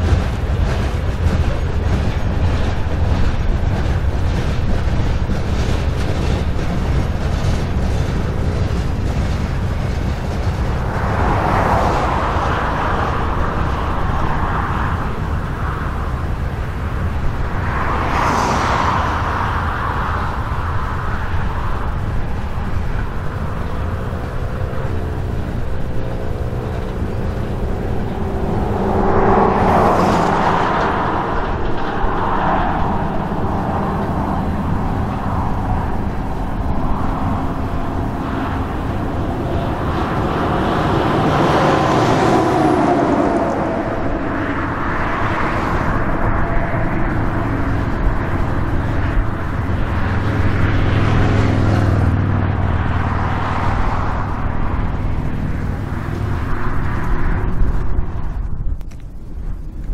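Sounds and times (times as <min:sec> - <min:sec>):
freight train rolling past: 0:00.0 - 0:58.3.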